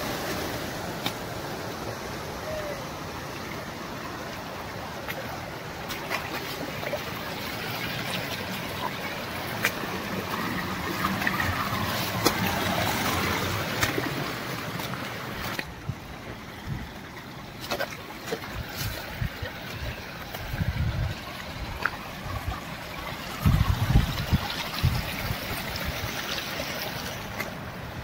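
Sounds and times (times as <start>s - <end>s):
stream splashing over rocks: 0.0s - 28.0s.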